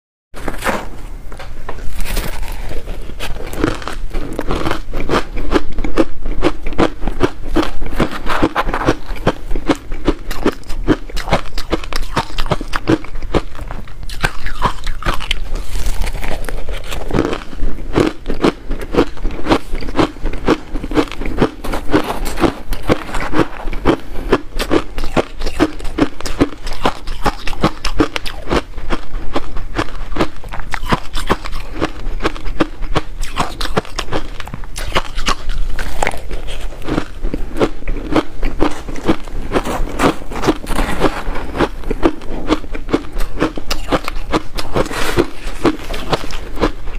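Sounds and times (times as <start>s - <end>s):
crunching ice in mouth: 1.8s - 46.9s.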